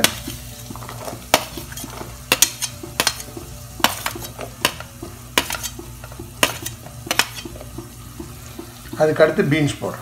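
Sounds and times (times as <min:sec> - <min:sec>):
onions sizzling in oil: 0:00.0 - 0:09.8.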